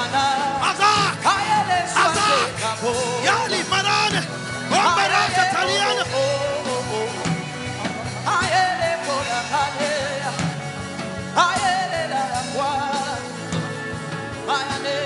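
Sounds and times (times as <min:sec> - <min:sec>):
worship music with steady beat: 0:00.0 - 0:15.0.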